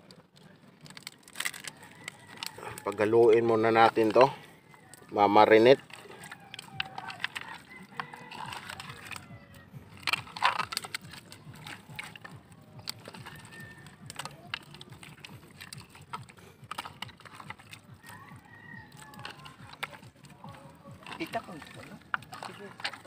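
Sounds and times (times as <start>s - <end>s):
hands squelching raw meat in marinade: 0.0s - 23.0s.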